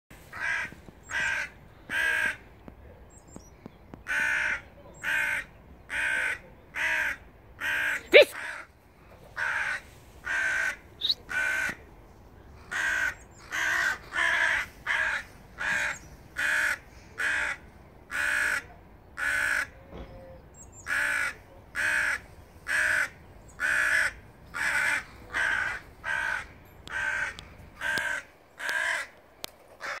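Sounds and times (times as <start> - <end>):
raven cawing: 0.3 - 2.4, 4.0 - 8.7, 9.4 - 11.8, 12.6 - 19.8, 20.8 - 29.2, 29.8 - 30.0.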